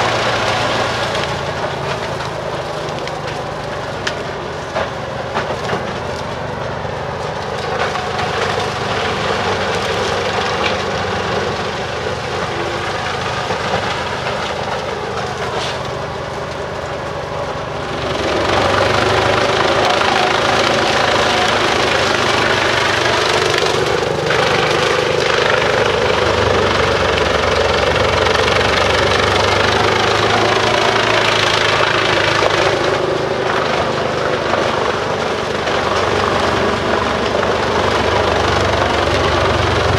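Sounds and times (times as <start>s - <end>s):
wood chipper chipping: 0.0s - 39.9s.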